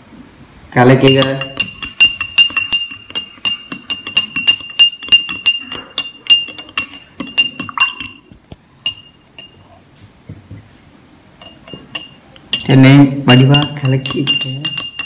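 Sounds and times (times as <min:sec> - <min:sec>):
spoon clinking in a glass: 0:01.0 - 0:09.8, 0:11.4 - 0:15.0.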